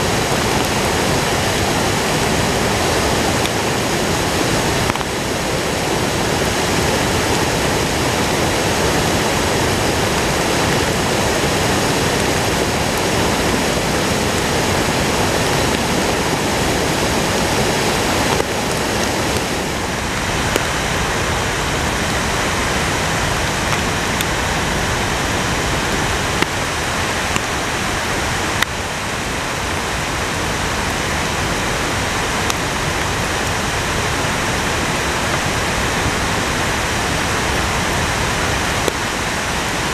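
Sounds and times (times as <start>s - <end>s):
floodwater rushing over rocks: 0.0s - 39.9s.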